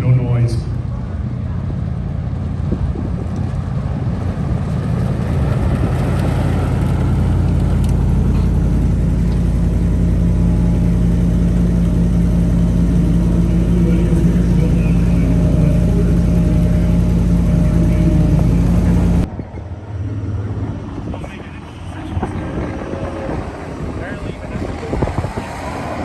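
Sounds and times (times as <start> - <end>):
electric pickup low rumble: 0.0 - 26.0.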